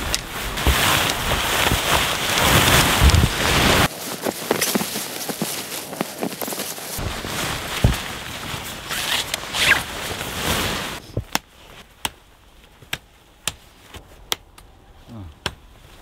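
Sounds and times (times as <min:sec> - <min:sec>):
tent fabric rustling: 0:00.0 - 0:14.3.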